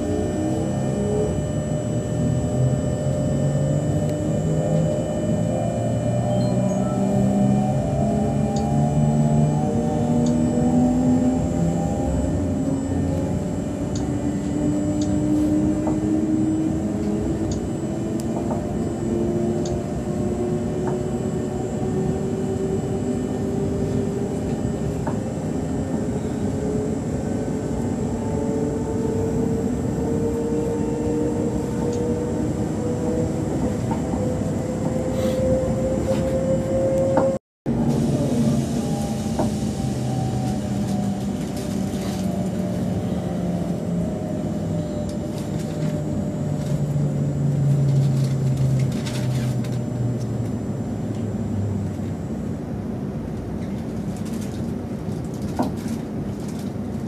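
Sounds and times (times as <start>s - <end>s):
rising train drive whine: 0.0s - 57.0s
train running rumble: 0.0s - 57.0s.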